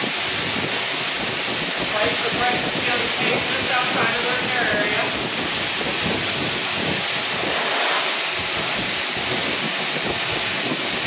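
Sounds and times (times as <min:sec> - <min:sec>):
gas hissing from pipe leak: 0:00.0 - 0:11.0.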